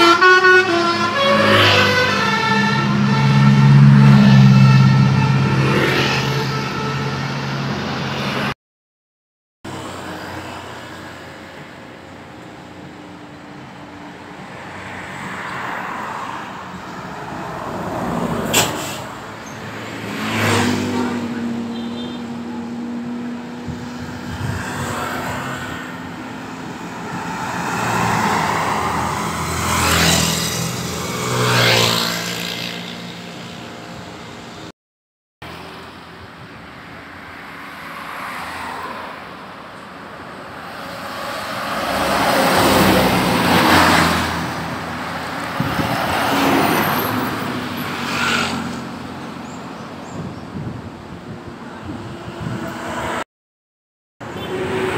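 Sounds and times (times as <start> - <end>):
vehicles passing: 0.0 - 8.6, 9.7 - 34.7, 35.4 - 53.3, 54.2 - 54.9.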